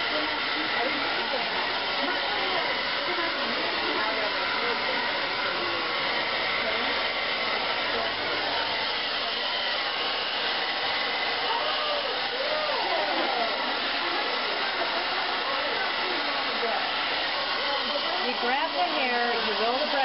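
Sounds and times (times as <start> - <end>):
blow dryer running: 0.0 - 20.0.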